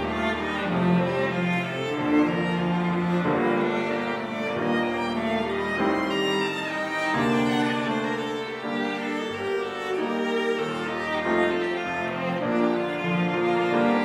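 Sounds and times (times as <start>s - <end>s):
cello: 0.0s - 14.0s
grand piano: 0.0s - 14.0s
violin: 0.0s - 14.0s.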